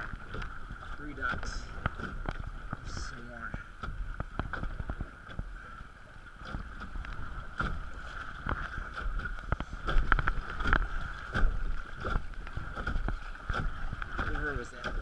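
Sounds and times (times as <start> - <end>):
kayak paddle splashing: 0.0 - 15.0
water rushing past hull: 0.0 - 15.0
wind rumbling on microphone: 0.0 - 15.0.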